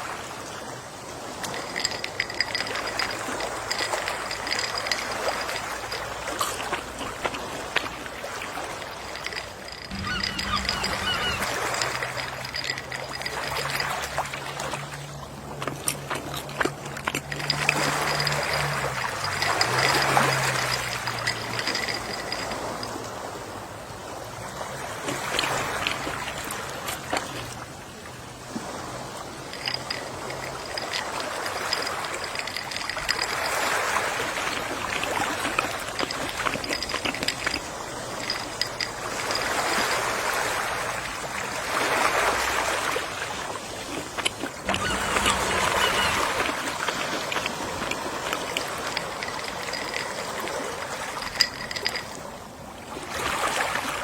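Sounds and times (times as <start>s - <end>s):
gentle sea waves washing: 0.0s - 54.0s.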